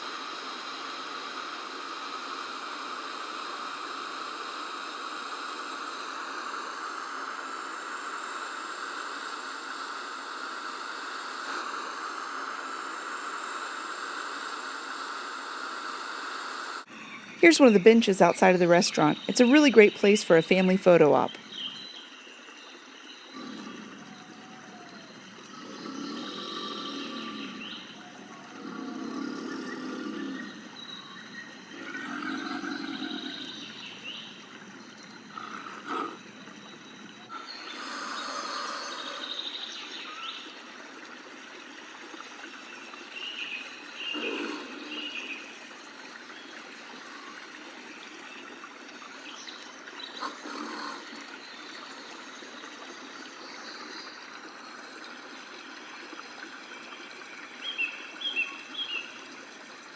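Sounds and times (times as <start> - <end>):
trickling running water: 0.0 - 59.9.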